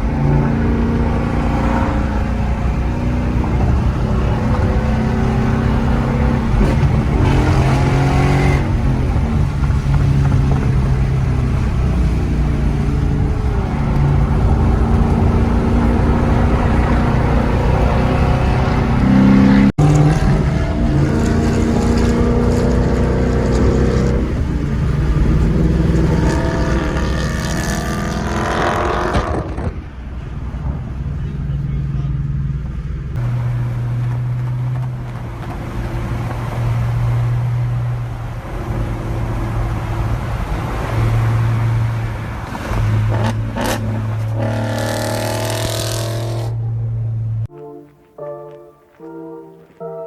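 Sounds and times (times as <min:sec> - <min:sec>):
car engines revving: 0:00.0 - 0:47.5.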